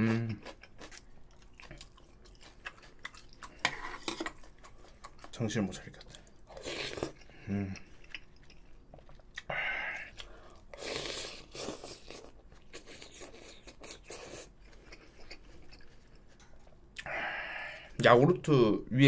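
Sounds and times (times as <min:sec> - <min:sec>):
chewing: 0:00.0 - 0:17.1.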